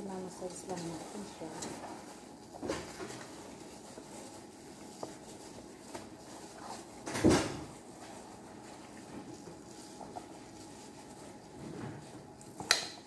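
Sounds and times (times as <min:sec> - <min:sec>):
gloved hand handling raw chicken: 0:00.1 - 0:13.0.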